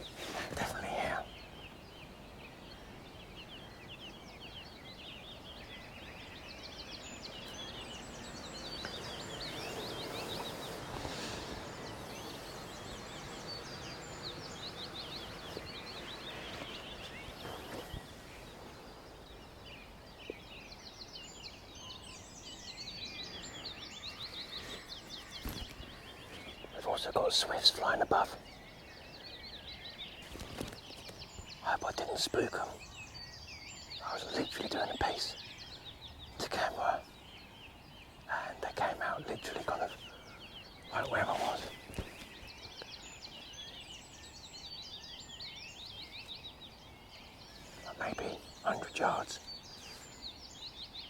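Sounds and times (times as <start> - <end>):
birds trilling: 0.0 - 51.0
outdoor hiss: 1.2 - 51.0.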